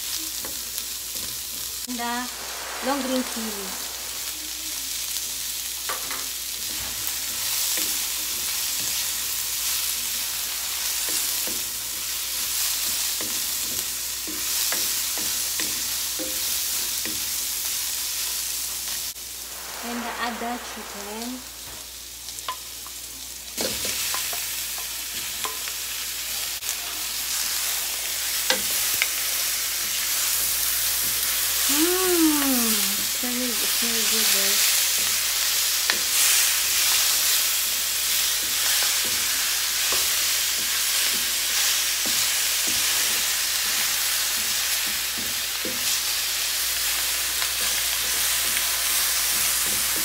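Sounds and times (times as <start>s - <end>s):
chicken sizzling in hot oil: 0.0s - 50.0s.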